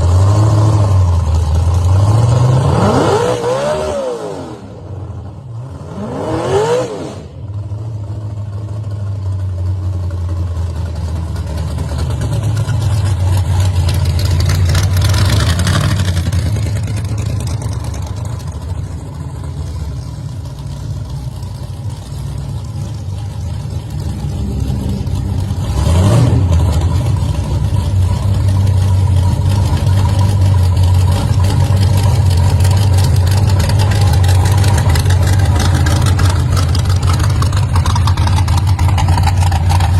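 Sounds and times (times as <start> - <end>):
hot rod engine rumbling and revving: 0.0 - 39.9.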